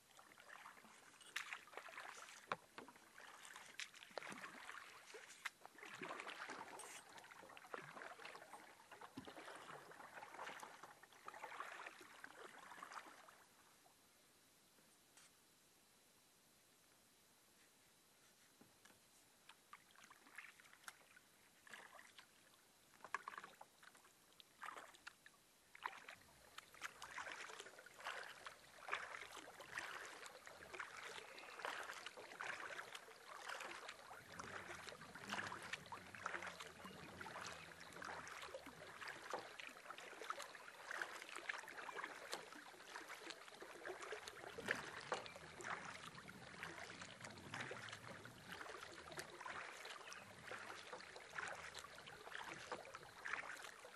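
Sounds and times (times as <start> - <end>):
paddle strokes splashing: 0.0 - 13.5, 19.4 - 53.9
water sloshing along canoe hull: 0.0 - 14.0, 18.5 - 53.9.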